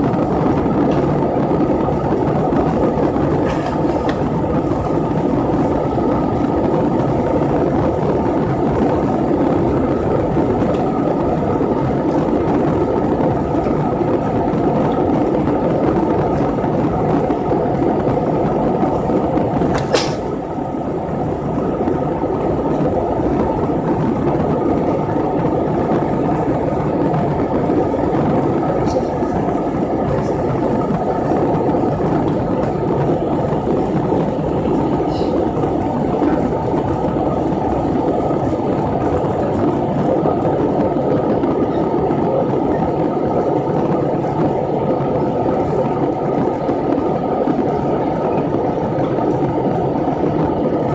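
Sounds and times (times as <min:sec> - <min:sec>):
vehicle running noise: 0:00.0 - 0:50.9.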